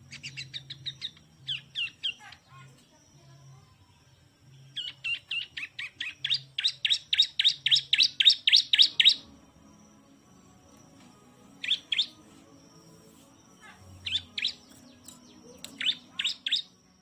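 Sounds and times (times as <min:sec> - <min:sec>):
bird singing repeated notes: 0:00.0 - 0:17.0.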